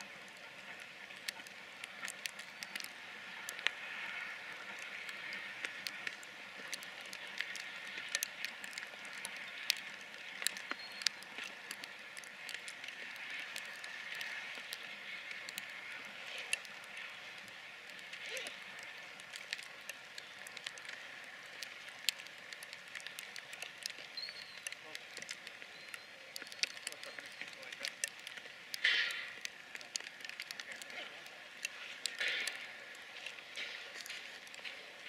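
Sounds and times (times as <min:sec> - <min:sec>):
sharp irregular clicks: 0:00.0 - 0:34.9.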